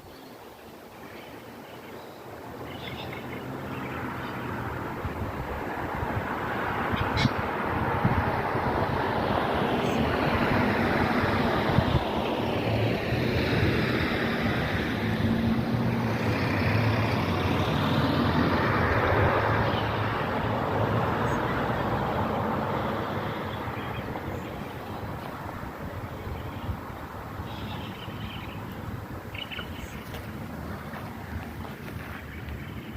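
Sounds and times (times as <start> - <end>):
vehicle passing by: 2.4 - 32.9.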